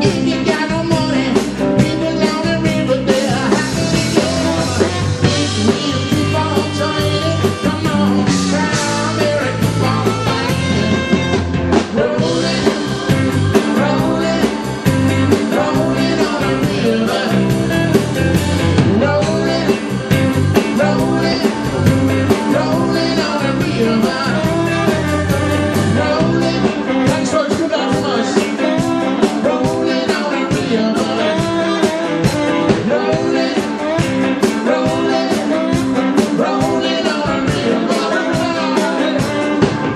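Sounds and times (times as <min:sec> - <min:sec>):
drum kit: 0:00.0 - 0:39.9
electric bass: 0:00.0 - 0:39.9
electric guitar: 0:00.0 - 0:39.9
man singing lead vocal: 0:00.0 - 0:39.9.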